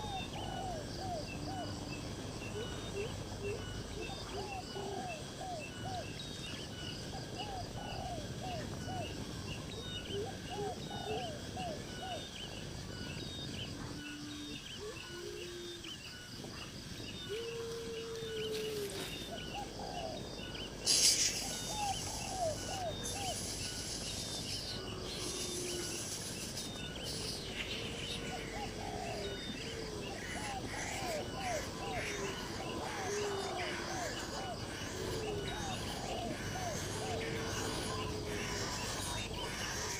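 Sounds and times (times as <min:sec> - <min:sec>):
birds calling: 0:00.0 - 0:39.9
crickets chirping: 0:00.0 - 0:39.9.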